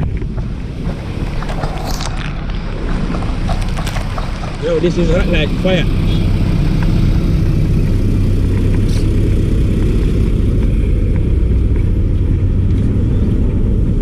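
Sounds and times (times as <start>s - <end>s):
road traffic rumble: 0.0s - 14.0s
vehicle engine running: 0.0s - 14.0s.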